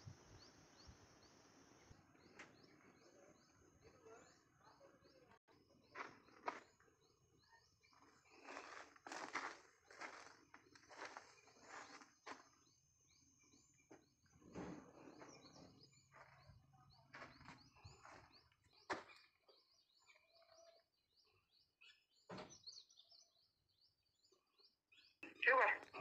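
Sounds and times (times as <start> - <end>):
faint small-bird chirps: 0.0 - 26.0.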